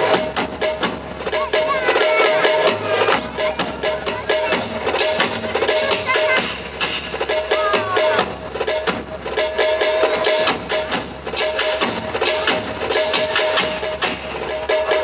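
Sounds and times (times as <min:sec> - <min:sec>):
drummers beating large drums: 0:00.0 - 0:15.0.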